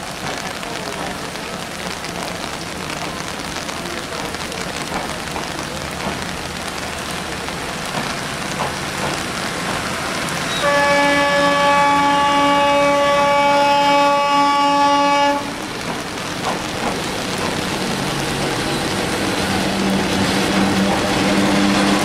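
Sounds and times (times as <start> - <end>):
raindrops pattering: 0.0 - 22.0
steady rain hiss: 0.0 - 22.0.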